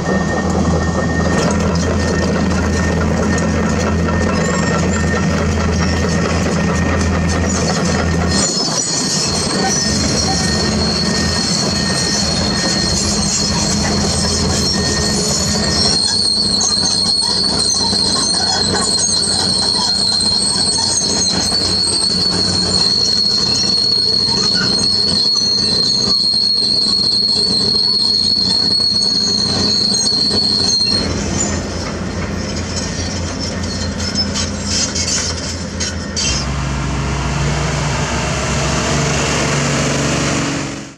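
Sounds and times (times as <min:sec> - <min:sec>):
diesel engines rumbling: 0:00.0 - 0:40.9
steel crawler tracks squealing: 0:00.0 - 0:40.9.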